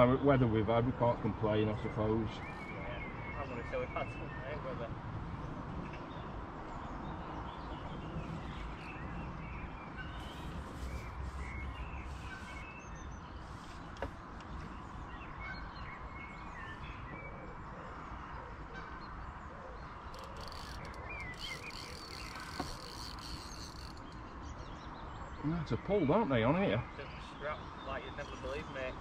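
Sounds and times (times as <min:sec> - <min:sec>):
small birds chirping: 0:00.0 - 0:18.4, 0:19.0 - 0:29.0
outdoor background hiss and rumble: 0:00.0 - 0:29.0.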